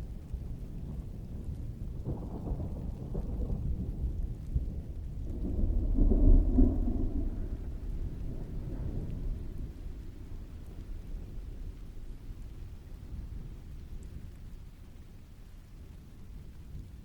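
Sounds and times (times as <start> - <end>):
steady rainfall: 0.0 - 17.0
distant thunder rolling: 0.1 - 14.7.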